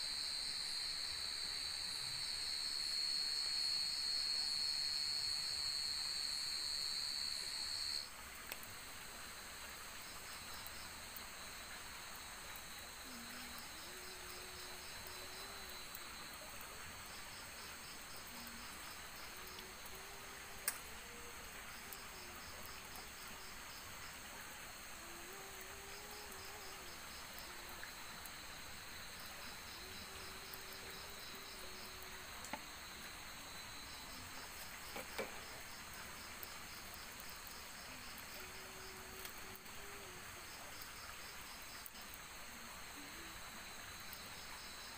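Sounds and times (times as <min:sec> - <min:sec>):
loud high insect drone: 0:00.0 - 0:08.1, 0:10.3 - 0:35.7, 0:36.3 - 0:42.0
crickets and katydids trilling: 0:00.1 - 0:08.1, 0:12.2 - 0:42.2.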